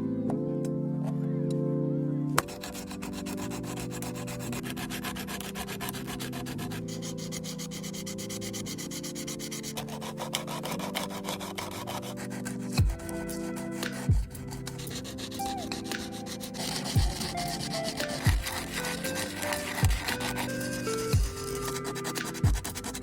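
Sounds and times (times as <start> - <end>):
background music: 0.0 - 23.0
sandpaper rubbing on plastic: 2.4 - 23.0.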